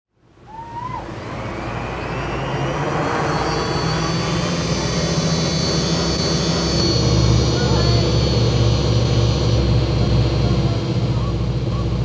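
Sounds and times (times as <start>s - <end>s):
drone motors whining and buzzing: 0.2s - 12.0s.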